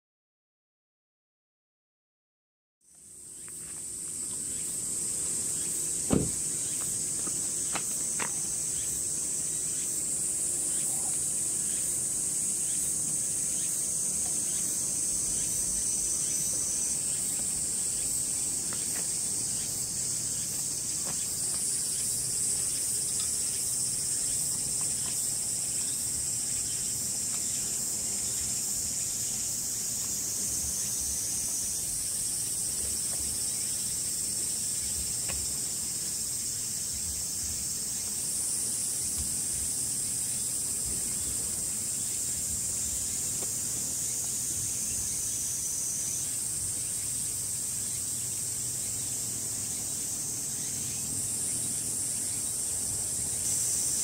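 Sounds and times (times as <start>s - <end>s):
cicadas singing: 2.8s - 54.0s.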